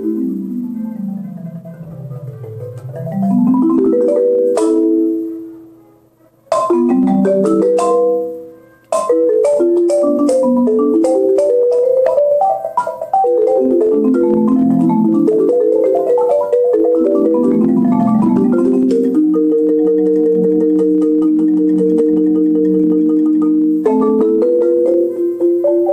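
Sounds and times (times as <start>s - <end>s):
marimba played with mallets: 0.0s - 5.8s, 6.5s - 25.9s.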